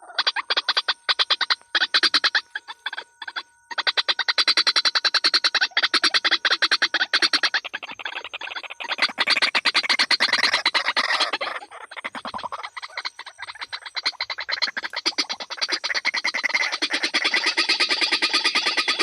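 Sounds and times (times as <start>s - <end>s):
rapid pulsed croaking calls: 0.0s - 19.0s.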